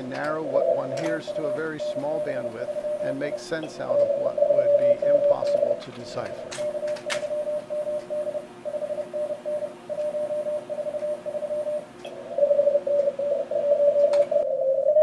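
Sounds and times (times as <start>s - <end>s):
morse code beeps: 0.0s - 14.4s
radio band hiss: 0.0s - 14.5s
fainter lower-pitched morse signal: 0.0s - 15.0s.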